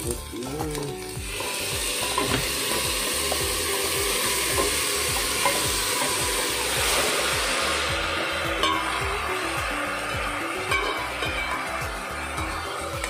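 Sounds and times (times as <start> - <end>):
chicken sizzling in pot: 0.0 - 13.0.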